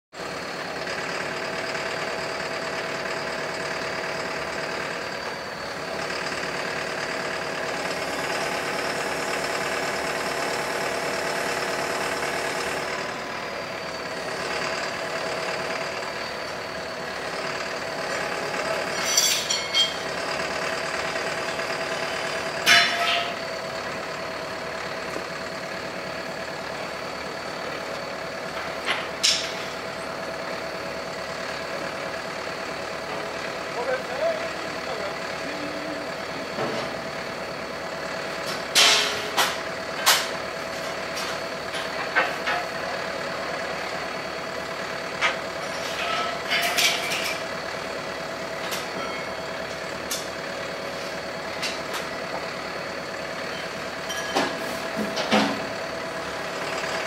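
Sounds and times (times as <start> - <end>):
diesel engine running with whine: 0.2 - 57.0.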